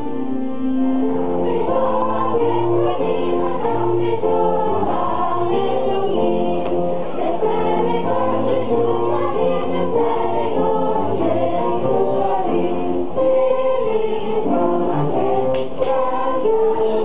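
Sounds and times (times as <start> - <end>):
children's choir singing: 1.0 - 17.0.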